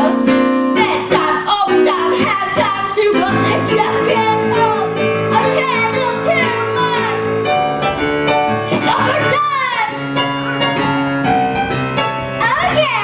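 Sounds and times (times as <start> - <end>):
show tune music with piano: 0.0 - 13.0.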